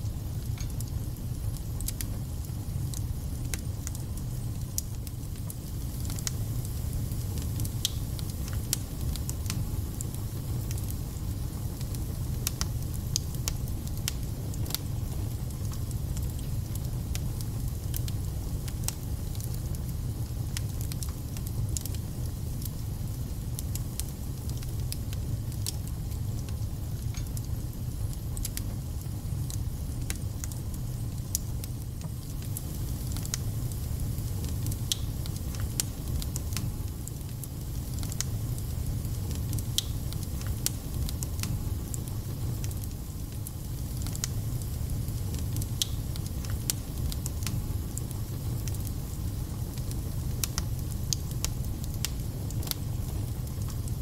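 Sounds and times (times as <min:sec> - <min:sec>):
fire crackling and spitting: 0:00.0 - 0:54.0
fire rumbling: 0:00.1 - 0:54.0.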